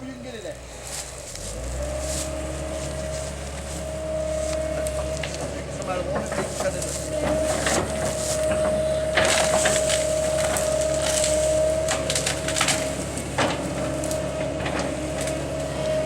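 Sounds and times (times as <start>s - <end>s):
branches cracking and snapping: 0.8s - 16.0s.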